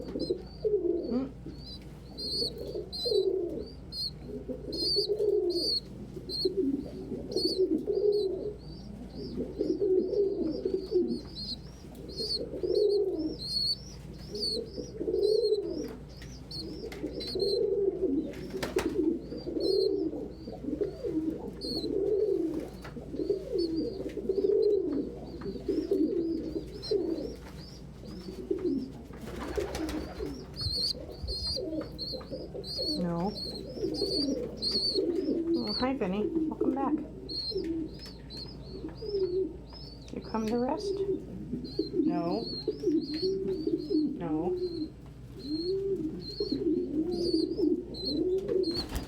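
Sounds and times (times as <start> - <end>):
pigeons cooing: 0.0 - 49.0
high thin peeping: 0.1 - 28.6, 29.3 - 44.0.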